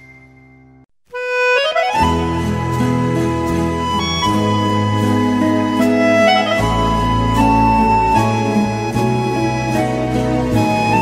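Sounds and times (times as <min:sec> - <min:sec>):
slow instrumental melody: 0:00.0 - 0:11.0.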